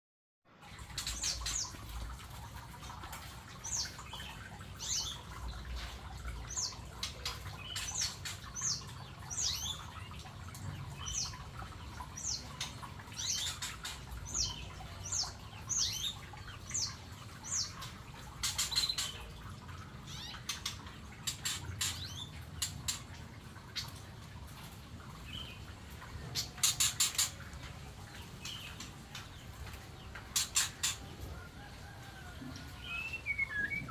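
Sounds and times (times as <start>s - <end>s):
birds chirping: 3.5s - 33.9s.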